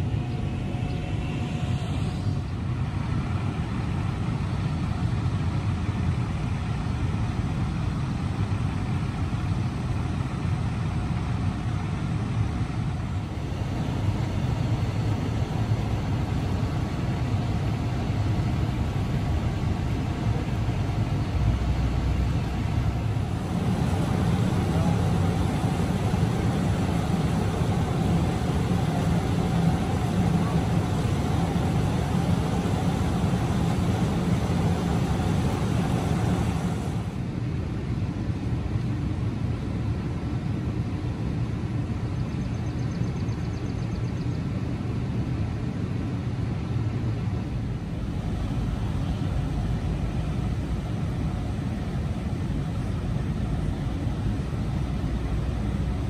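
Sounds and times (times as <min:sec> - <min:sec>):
diesel engine running: 0:00.0 - 0:37.6, 0:47.6 - 0:56.0.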